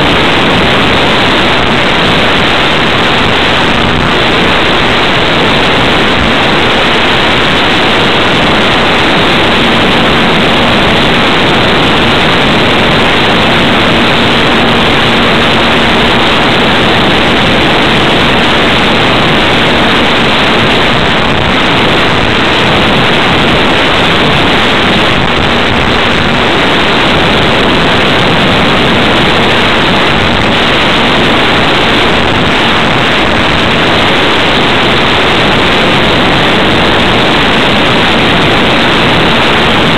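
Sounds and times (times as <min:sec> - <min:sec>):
electric motor and propeller hum: 0:00.0 - 0:39.9
wind rushing over microphone: 0:00.0 - 0:39.9.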